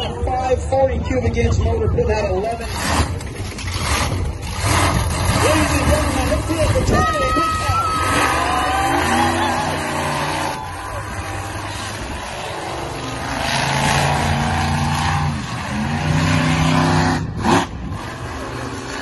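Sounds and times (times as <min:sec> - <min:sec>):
truck engine revving: 0:02.4 - 0:19.0.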